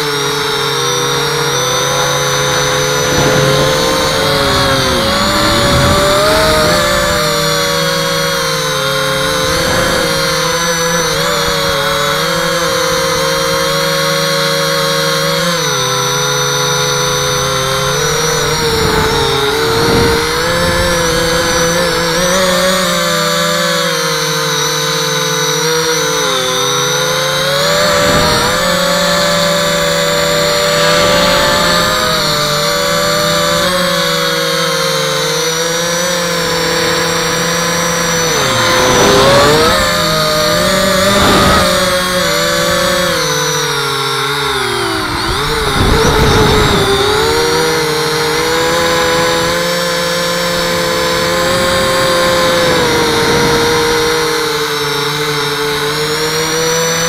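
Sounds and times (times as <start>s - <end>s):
quadcopter motors buzzing: 0.0s - 57.0s.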